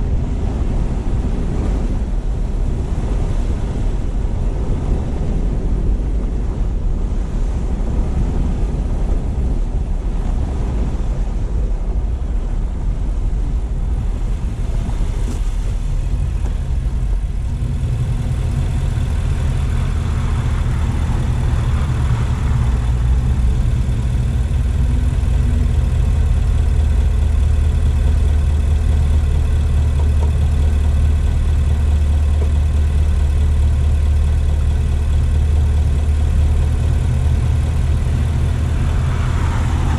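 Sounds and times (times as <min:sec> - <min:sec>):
car engine rumble: 0:00.0 - 0:39.9
road noise: 0:00.0 - 0:39.9.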